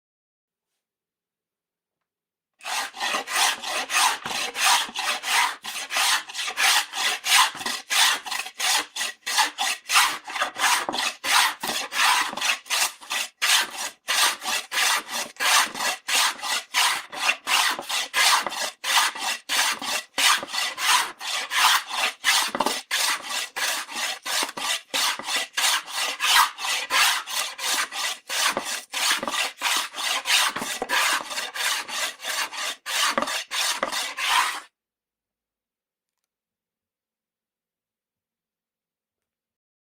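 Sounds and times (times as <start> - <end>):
rasping scraping strokes: 2.6 - 34.7.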